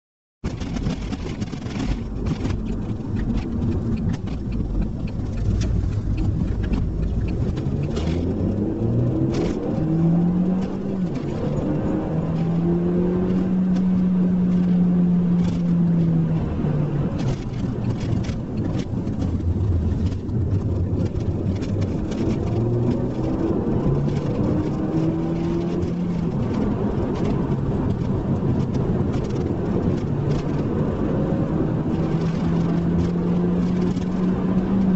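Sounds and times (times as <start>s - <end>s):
road and wind noise: 0.4s - 34.9s
car engine accelerating through gears: 0.5s - 34.9s.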